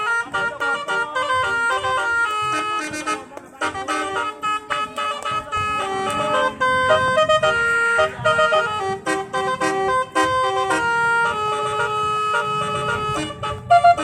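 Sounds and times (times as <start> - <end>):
multi-tone electric horn tune: 0.0 - 14.0.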